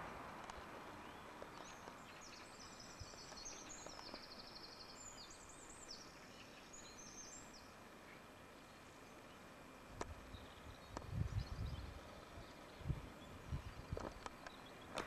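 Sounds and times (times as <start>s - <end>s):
low outdoor background noise: 0.0s - 15.0s
songbird chirping and trilling: 0.5s - 15.0s.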